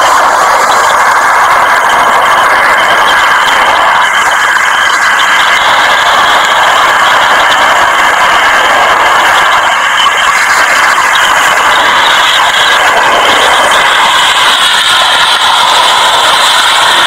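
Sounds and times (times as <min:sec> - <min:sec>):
water jet spraying: 0:00.0 - 0:17.0.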